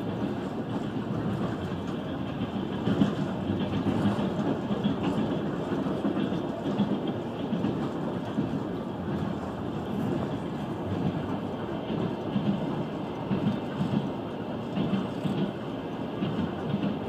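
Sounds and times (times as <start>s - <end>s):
wheels thumping over rail joints: 0.0s - 15.6s
train rumble inside carriage: 0.0s - 17.0s.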